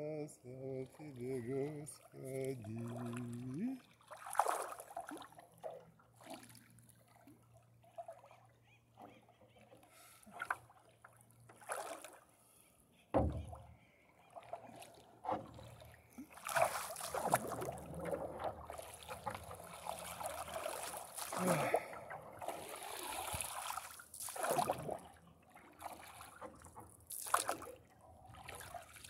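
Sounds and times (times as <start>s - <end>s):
paddle splashing through water: 1.4s - 12.3s, 13.1s - 29.0s.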